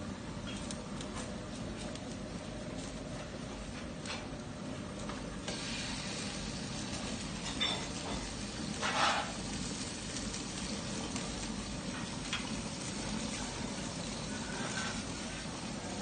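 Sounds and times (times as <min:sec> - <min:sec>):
gas stove hiss: 0:00.0 - 0:16.0
liquid boiling in a wok: 0:00.0 - 0:16.0.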